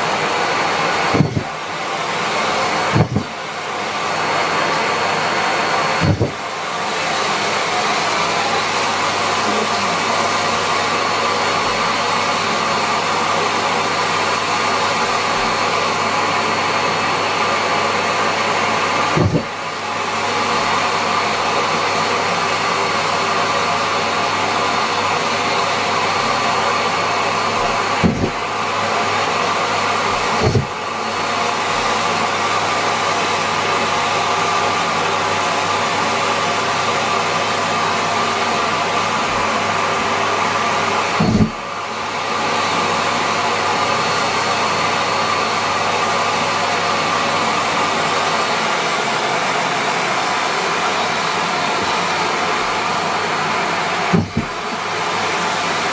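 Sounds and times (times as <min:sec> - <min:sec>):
vacuum cleaner running: 0:00.0 - 0:55.9.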